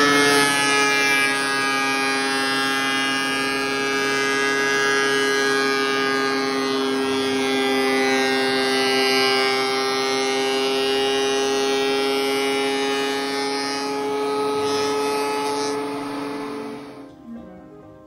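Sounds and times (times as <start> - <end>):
thickness planer whining: 0.0 - 18.0.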